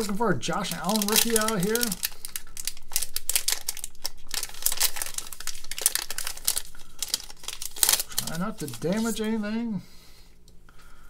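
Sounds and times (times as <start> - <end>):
plastic wrapper crinkling: 0.0 - 9.4.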